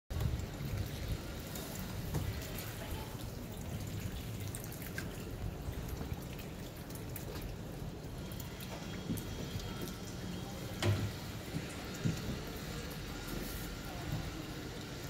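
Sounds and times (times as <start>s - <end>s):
water splashing and dripping: 0.1s - 15.0s.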